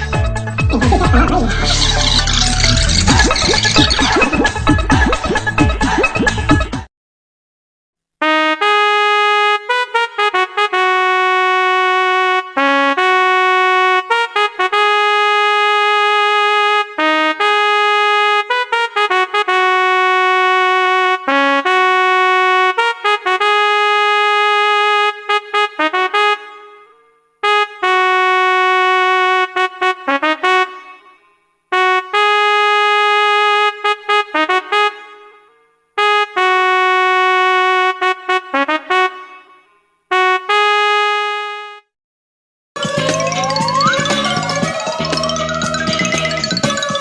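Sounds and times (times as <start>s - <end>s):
comic brass melody: 0.0s - 6.2s, 8.2s - 41.9s, 42.8s - 47.0s.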